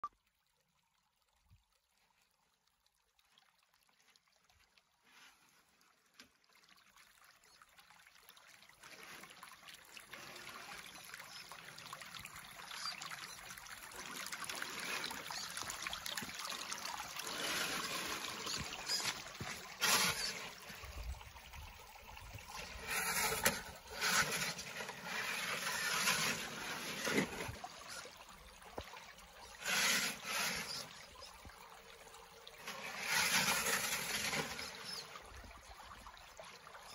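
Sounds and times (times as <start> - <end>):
creek water trickling over rocks: 0.0 - 36.9.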